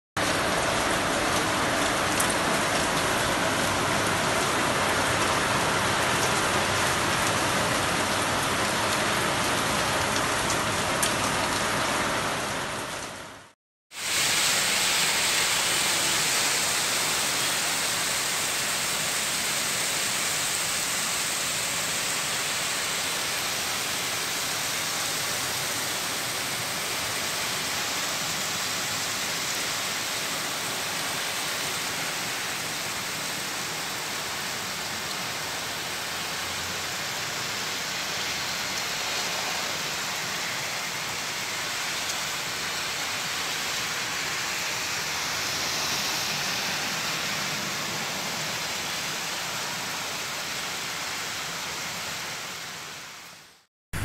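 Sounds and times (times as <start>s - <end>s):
heavy rain on pavement: 0.2s - 54.0s.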